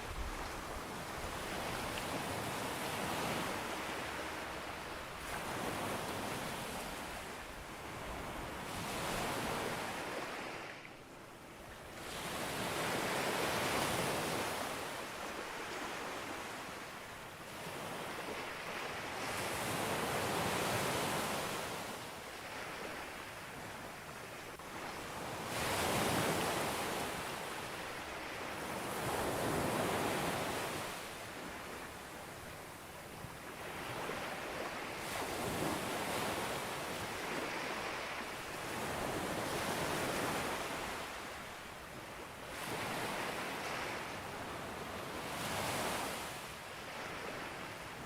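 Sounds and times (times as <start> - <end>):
sea waves breaking on a beach: 0.0 - 48.0.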